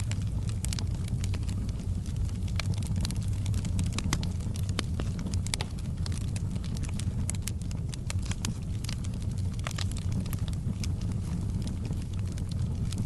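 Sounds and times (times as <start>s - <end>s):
fire rumbling: 0.0s - 13.0s
logs crackling and popping: 0.0s - 13.0s.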